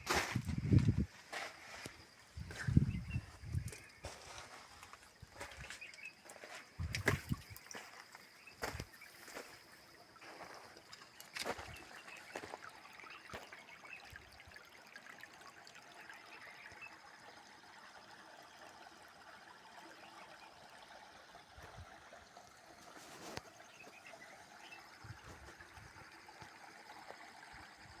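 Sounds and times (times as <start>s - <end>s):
faint trickling water: 0.0s - 28.0s.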